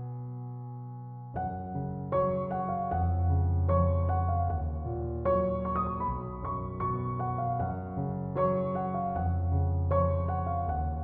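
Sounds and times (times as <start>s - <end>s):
gentle instrumental melody: 0.0s - 11.0s.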